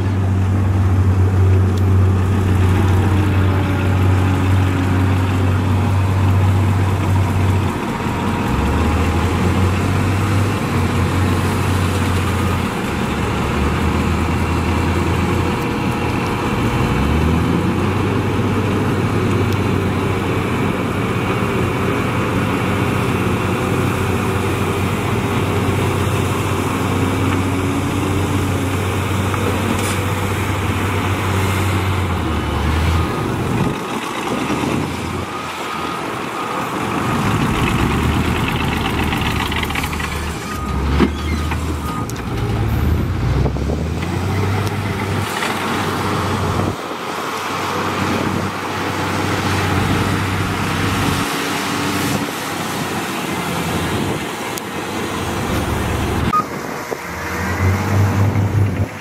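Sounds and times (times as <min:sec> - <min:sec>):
heavy diesel engines under load: 0:00.0 - 0:59.0.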